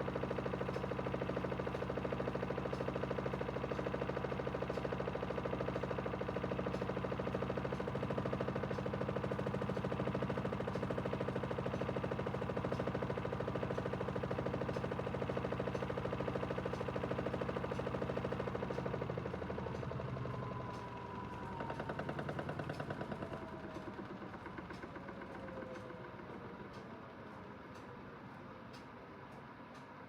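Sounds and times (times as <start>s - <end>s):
washing machine spinning: 0.6s - 27.1s.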